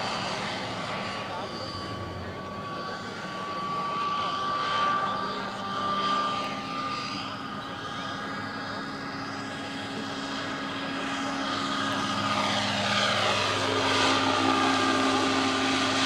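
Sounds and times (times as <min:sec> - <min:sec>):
model helicopter rotor whine: 0:00.0 - 0:16.0.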